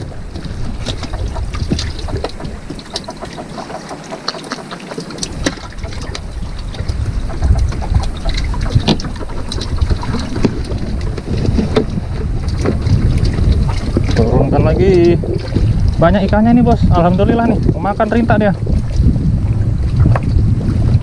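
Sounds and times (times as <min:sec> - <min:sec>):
water against boat hull: 0:00.0 - 0:21.0
wind buffeting microphone: 0:00.0 - 0:21.0.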